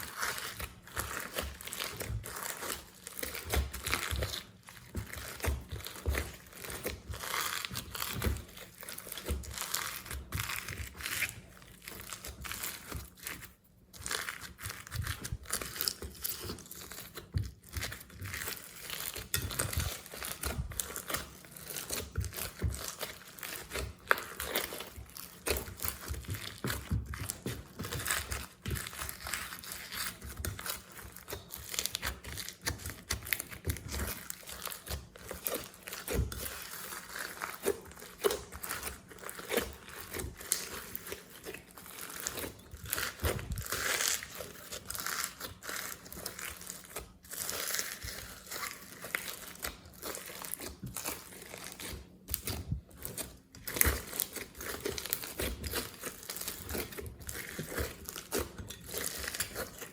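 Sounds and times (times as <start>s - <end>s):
slime squishing and crackling: 0.0s - 59.9s.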